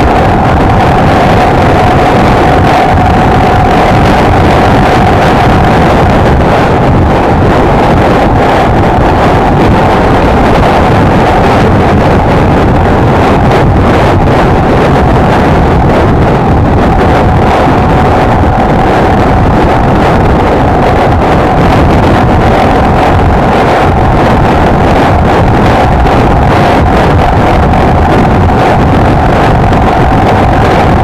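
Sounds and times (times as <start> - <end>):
wind noise on microphone: 0.0 - 31.0.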